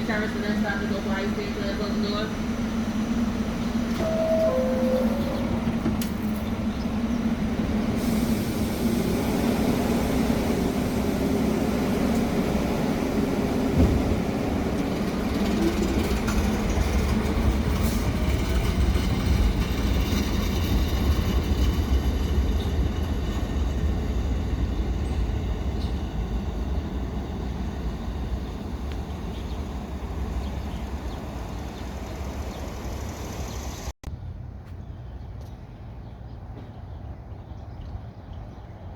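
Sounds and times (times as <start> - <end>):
train motor whine: 0.0 - 33.9
electric train rumbling: 0.0 - 34.0.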